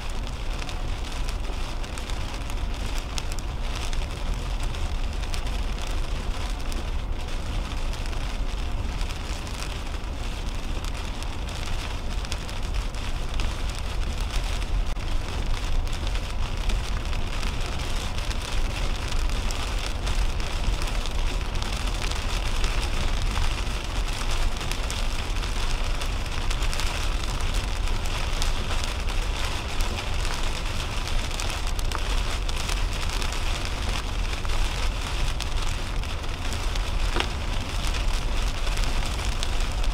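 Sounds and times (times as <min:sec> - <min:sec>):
heavy rain on car roof: 0:00.0 - 0:39.9
tyres on wet road: 0:00.0 - 0:39.9.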